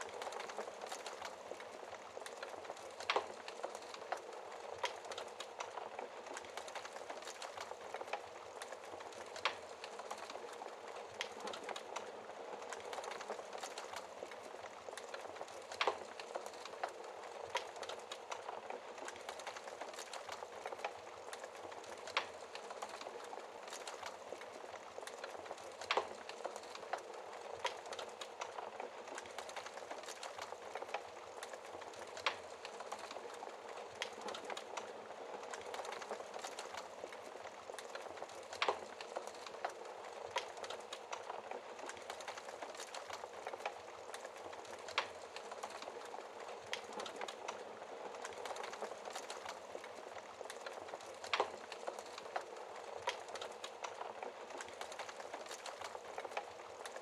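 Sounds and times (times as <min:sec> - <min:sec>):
wood fire hissing and crackling: 0:00.0 - 0:57.0.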